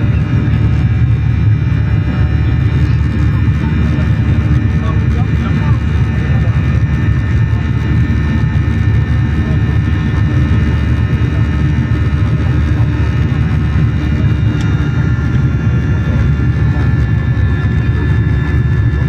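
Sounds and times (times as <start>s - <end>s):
jet engine and airflow rumble: 0.0s - 19.0s.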